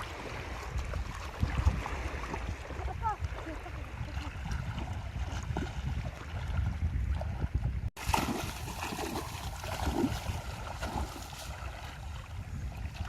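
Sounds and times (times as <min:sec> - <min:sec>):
water splashing around boat: 0:00.0 - 0:13.0.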